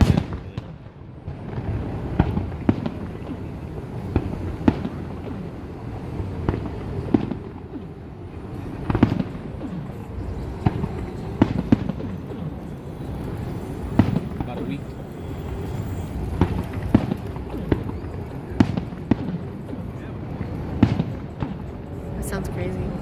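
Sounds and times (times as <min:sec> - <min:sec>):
fireworks bangs: 0:00.0 - 0:23.0
low rumble: 0:01.3 - 0:23.0.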